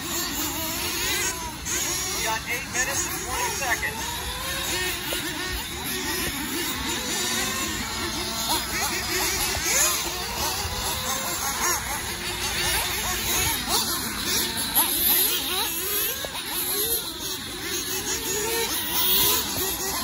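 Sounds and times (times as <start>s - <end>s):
rc car motors whining: 0.0s - 20.0s.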